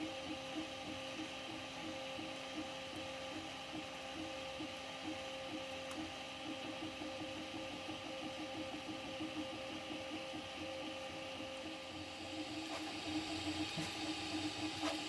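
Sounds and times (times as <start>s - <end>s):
steady machine whir: 0.0s - 15.0s.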